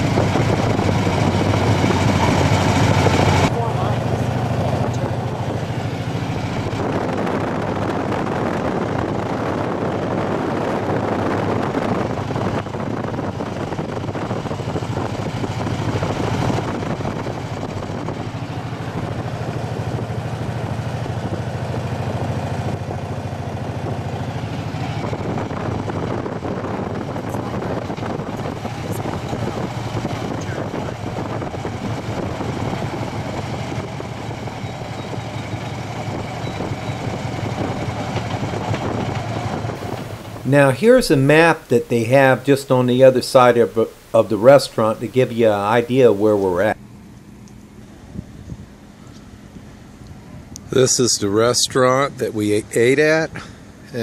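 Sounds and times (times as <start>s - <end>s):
motorcycle engine drone: 0.0s - 54.0s
wind and road noise: 0.0s - 54.0s.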